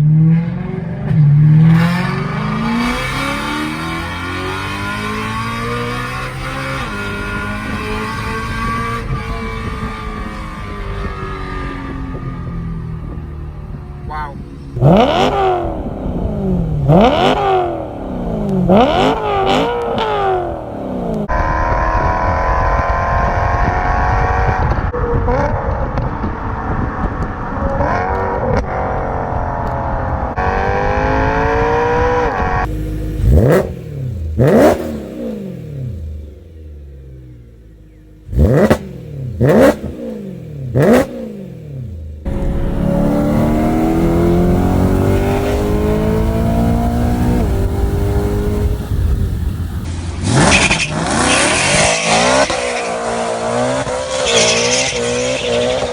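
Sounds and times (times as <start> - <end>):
car accelerating: 0.0 - 55.9
car engine revving: 0.0 - 55.9.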